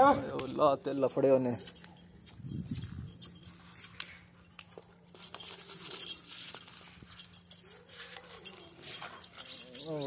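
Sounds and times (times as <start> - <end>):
metal chain rattling: 0.0 - 10.0.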